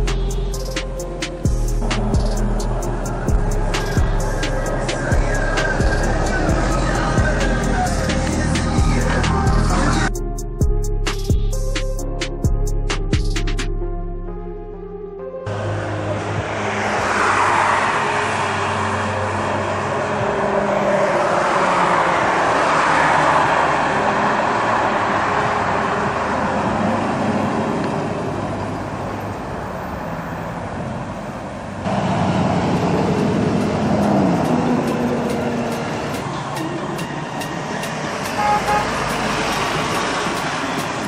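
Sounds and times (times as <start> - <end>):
truck engines running: 0.0 - 10.1, 15.5 - 41.0
traffic din: 0.0 - 10.2, 15.4 - 41.0.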